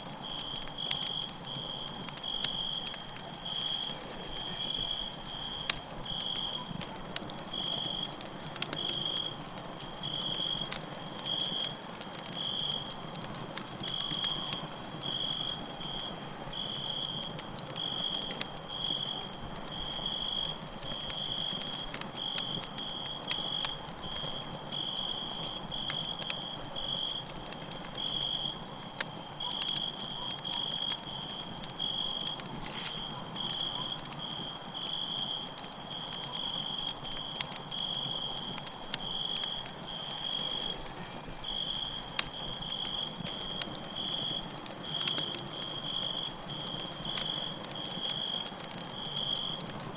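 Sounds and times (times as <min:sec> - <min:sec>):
campfire crackling and popping: 0:00.0 - 0:49.9
crickets chirping: 0:00.1 - 0:49.9.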